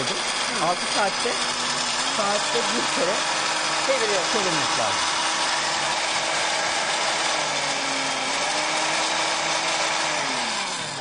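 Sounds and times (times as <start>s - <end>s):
blender motor grinding nuts: 0.0s - 11.0s.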